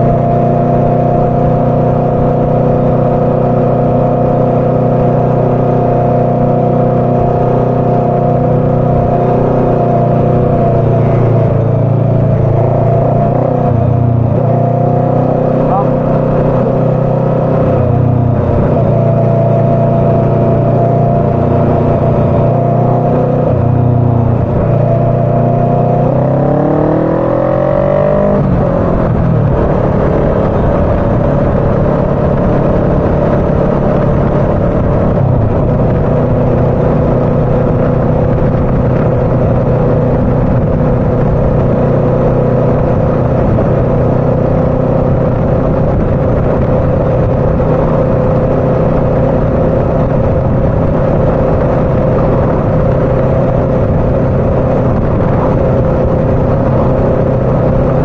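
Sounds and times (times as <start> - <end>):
motorcycle engine accelerating: 0.0 - 58.0
road noise: 0.0 - 58.0
wind noise: 0.0 - 58.0.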